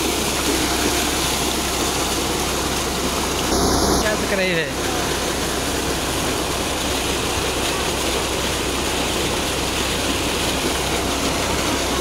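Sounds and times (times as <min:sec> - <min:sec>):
water gushing into a tank: 0:00.0 - 0:12.0.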